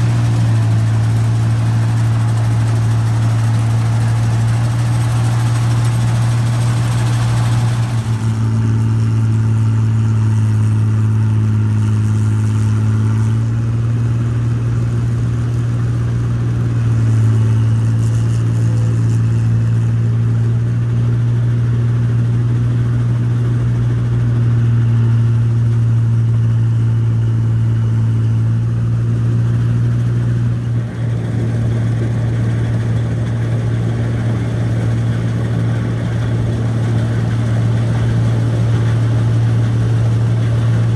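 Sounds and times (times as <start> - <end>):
combine harvester droning: 0.0 - 40.9.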